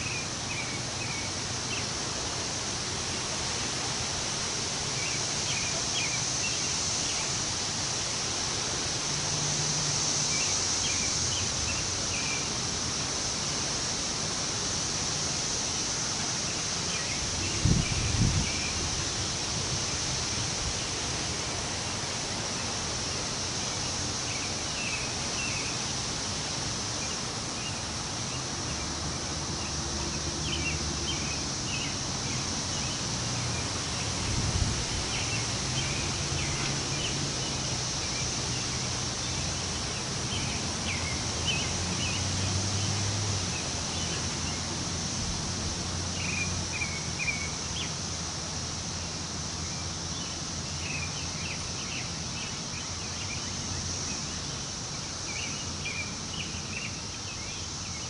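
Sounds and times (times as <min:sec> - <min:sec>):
wind rustling leaves: 0:00.0 - 0:58.0.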